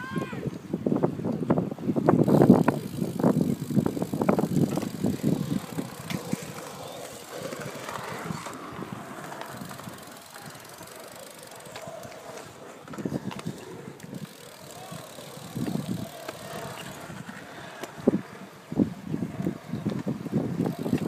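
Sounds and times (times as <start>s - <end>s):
bicycles rolling on pavement: 0.0s - 21.0s.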